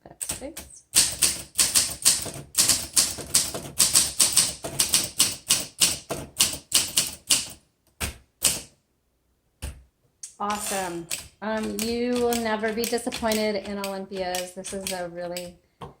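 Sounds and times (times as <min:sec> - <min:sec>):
manual typewriter keystrokes: 0:00.2 - 0:08.7, 0:11.0 - 0:15.6.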